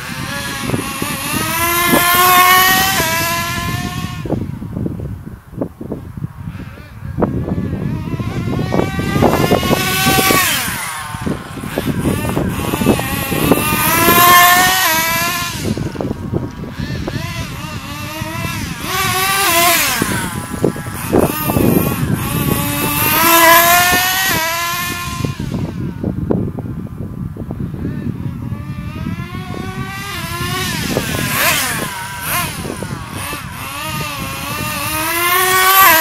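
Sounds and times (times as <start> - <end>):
radio-controlled car motor whining: 0.0 - 4.5, 6.5 - 26.0, 27.8 - 36.0.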